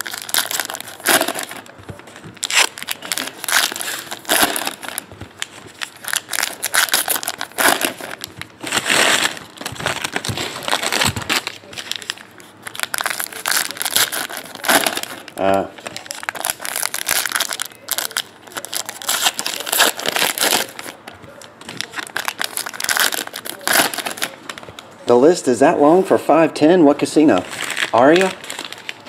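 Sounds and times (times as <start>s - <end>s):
plastic wrappers crinkling and tearing: 0.0s - 24.9s, 27.4s - 29.0s.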